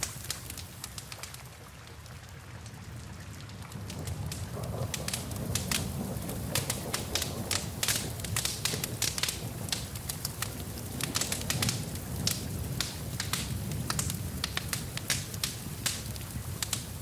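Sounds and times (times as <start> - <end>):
rain hissing: 0.0 - 1.6, 3.8 - 17.0
low rumble of flames: 0.0 - 17.0
wood fire crackling: 0.0 - 17.0.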